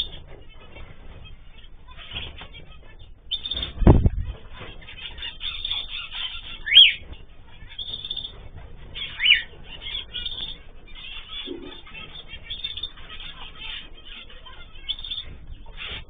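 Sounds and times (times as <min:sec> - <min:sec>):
cage birds chirping: 0:00.0 - 0:16.0.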